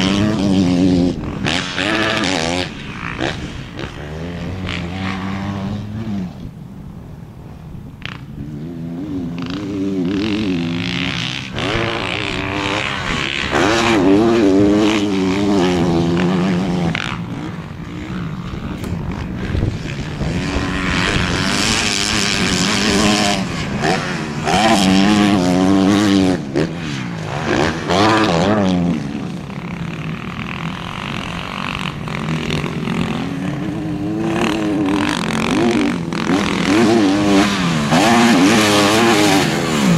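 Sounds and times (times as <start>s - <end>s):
motocross bike engine revving: 0.0s - 6.6s, 8.0s - 39.9s.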